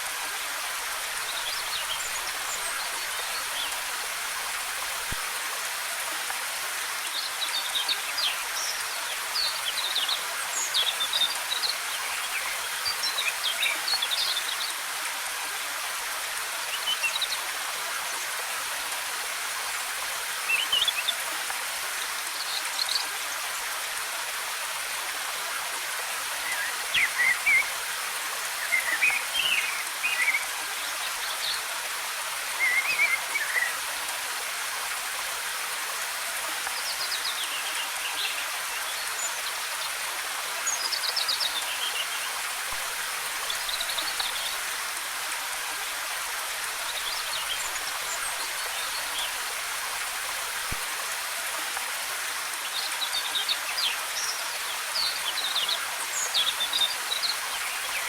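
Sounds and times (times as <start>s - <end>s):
waterfall cascading water: 0.0s - 58.0s.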